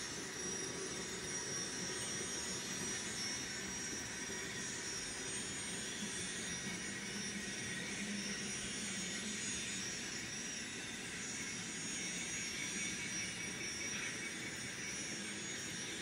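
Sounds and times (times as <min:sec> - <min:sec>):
model locomotive turbine whine: 0:00.0 - 0:16.0.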